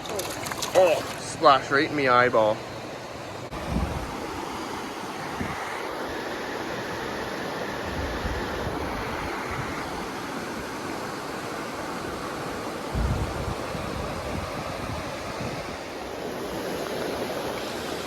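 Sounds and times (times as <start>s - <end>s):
fast-flowing river water: 0.0s - 18.0s.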